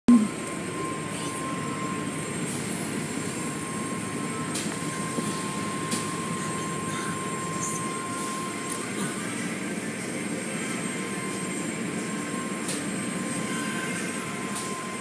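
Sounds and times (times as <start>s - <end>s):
thin machinery tone: 0.1s - 15.0s.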